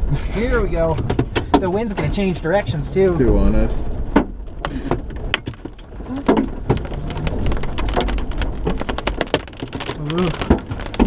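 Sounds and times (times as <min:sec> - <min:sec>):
rain rumble: 0:00.0 - 0:11.0
hailstones knocking on car roof: 0:00.2 - 0:11.0.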